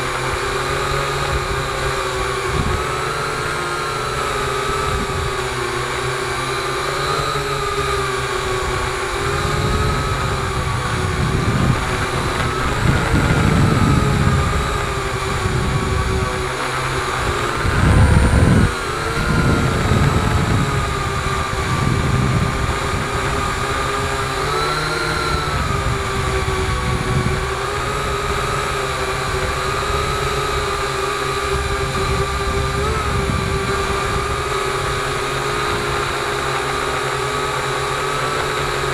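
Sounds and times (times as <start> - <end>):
drone propellers whining: 0.0 - 38.9
wind rumbling on microphone: 0.0 - 38.9.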